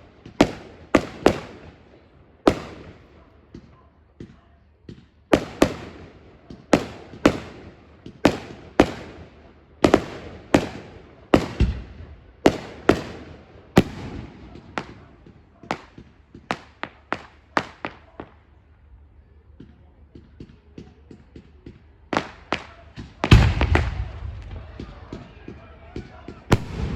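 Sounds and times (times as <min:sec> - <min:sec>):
fireworks bangs with echo: 0:00.0 - 0:18.5, 0:19.6 - 0:26.9.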